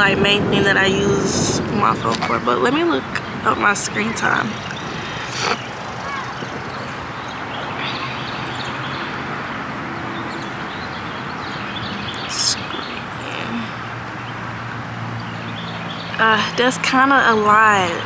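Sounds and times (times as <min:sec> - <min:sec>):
background hiss: 0:00.0 - 0:14.6.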